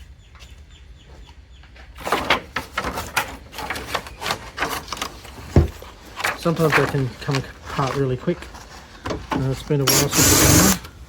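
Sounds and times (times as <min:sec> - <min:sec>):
metal parts clattering: 0:02.0 - 0:10.9.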